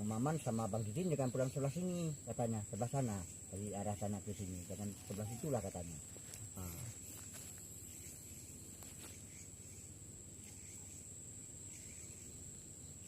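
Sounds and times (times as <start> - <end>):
faint low background hiss: 0.0 - 13.0
insects trilling: 0.0 - 13.0.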